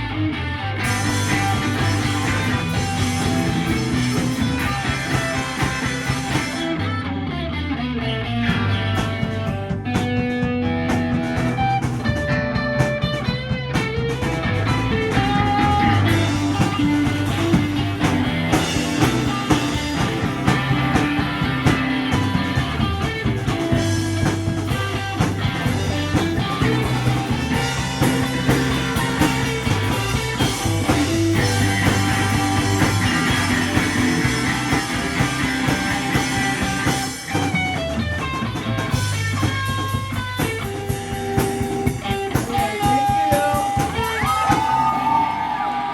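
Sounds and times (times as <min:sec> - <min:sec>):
bass line: 0:00.0 - 0:45.9
drums: 0:00.0 - 0:45.9
electric guitar: 0:00.0 - 0:45.9
live psychedelic rock band: 0:00.0 - 0:45.9.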